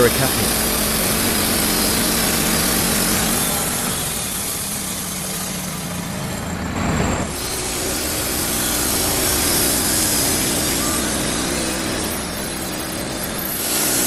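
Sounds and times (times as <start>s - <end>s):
engine-driven machinery running: 0.0s - 14.0s.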